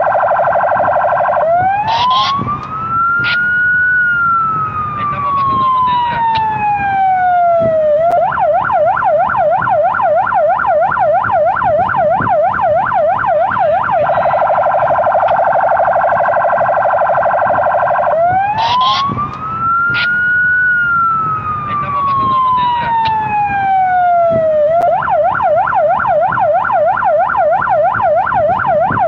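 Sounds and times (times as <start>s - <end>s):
police car siren: 0.0s - 29.0s.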